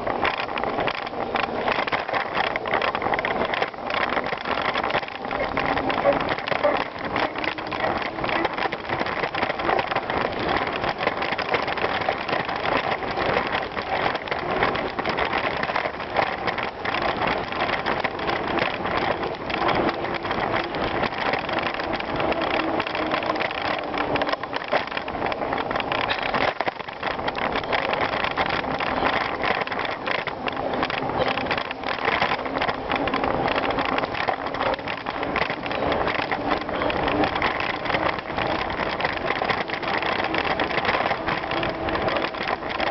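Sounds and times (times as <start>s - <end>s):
bicycle tyres rolling on gravel: 0.0s - 42.9s.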